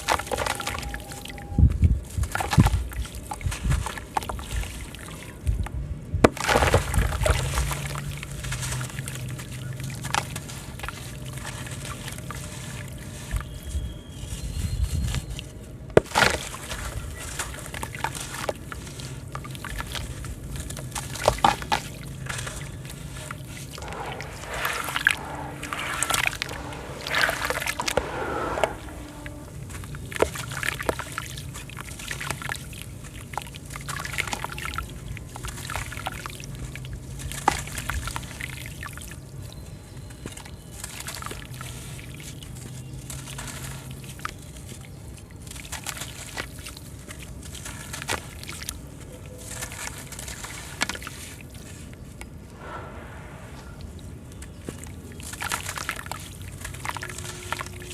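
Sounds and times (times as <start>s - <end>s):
cement chunks crumbling with crackles: 0.0s - 28.0s, 28.8s - 52.4s, 54.4s - 57.9s
small water splashes and sloshing: 0.0s - 57.9s.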